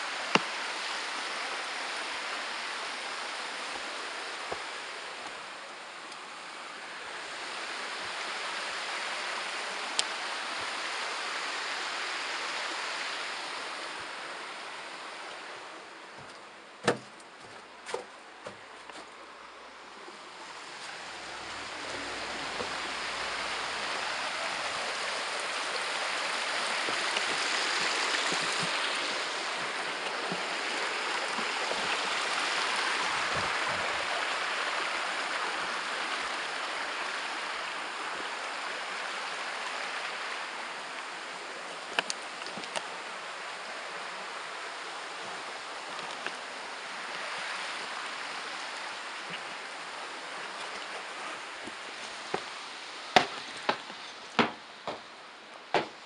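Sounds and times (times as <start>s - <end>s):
woodland stream flowing: 0.0s - 56.0s.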